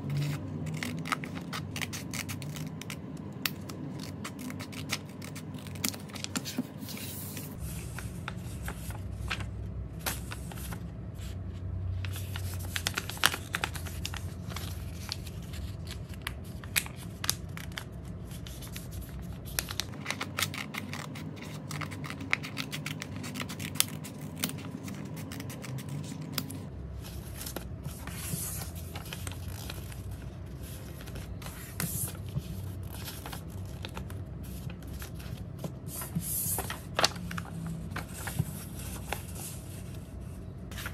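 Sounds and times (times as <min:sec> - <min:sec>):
paper rustling and folding: 0:00.0 - 0:40.9
paper stack shuffled: 0:00.1 - 0:40.1.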